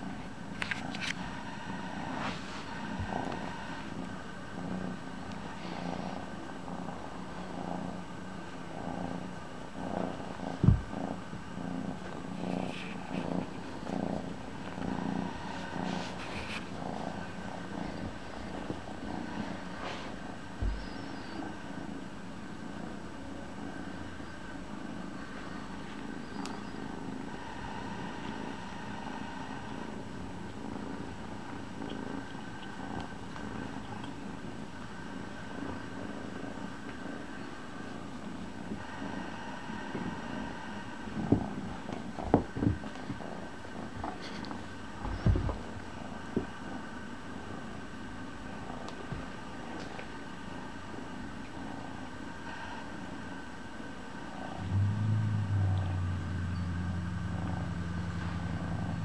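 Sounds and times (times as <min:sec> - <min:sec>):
kitten purring: 0:00.0 - 0:59.0.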